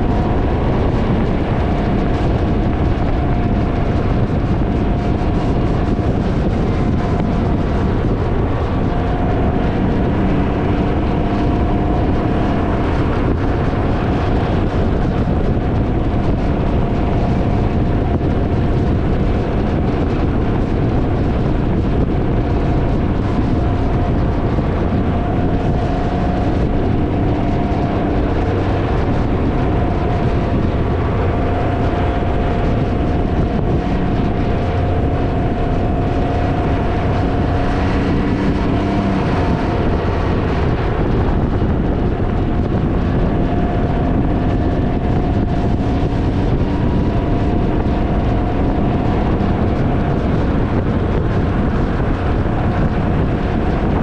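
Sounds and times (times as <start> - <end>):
motorcycle engine drone: 0.0 - 54.0
wind noise on microphone: 0.0 - 54.0.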